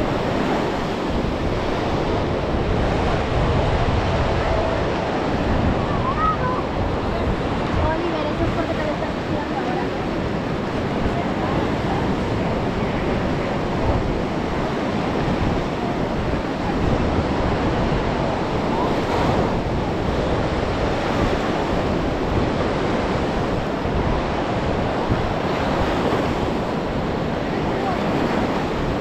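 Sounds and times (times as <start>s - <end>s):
sea surf washing onto beach: 0.0s - 29.0s
wind rumbling on microphone: 0.0s - 29.0s.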